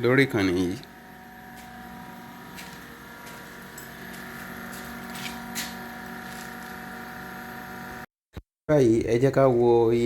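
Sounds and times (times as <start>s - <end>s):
machine humming: 0.0s - 8.1s.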